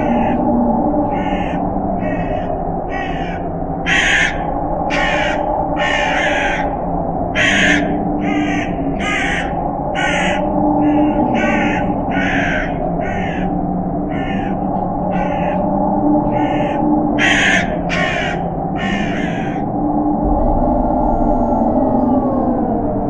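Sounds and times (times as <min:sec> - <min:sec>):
crows cawing: 0:00.0 - 0:06.7, 0:07.4 - 0:19.7
low howl of wind: 0:00.0 - 0:23.0.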